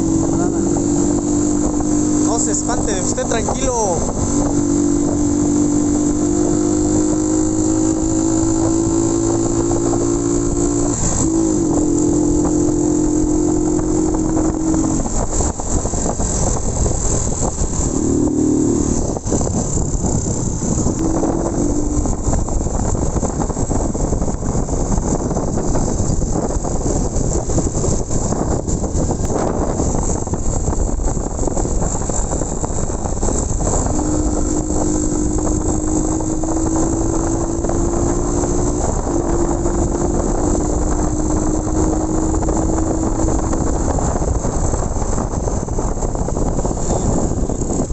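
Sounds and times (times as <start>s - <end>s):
gear change: 0.0s - 47.9s
motorcycle engine revving: 0.0s - 47.9s
wind noise on microphone: 0.0s - 47.9s.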